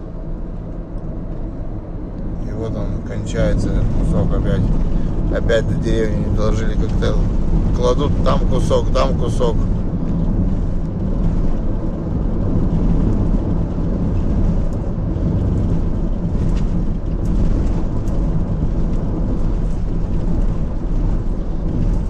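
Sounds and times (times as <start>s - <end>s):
car driving over rough road: 0.0s - 22.0s.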